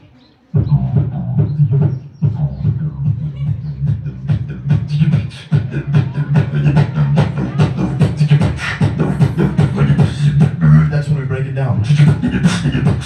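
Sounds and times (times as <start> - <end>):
man beatboxing: 0.5 - 13.0
low bass line: 0.6 - 13.0.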